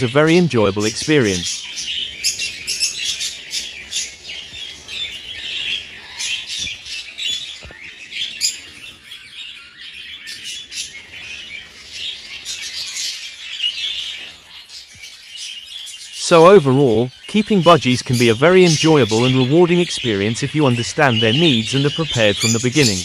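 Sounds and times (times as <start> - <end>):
budgerigars chirping and squawking: 0.0 - 23.0.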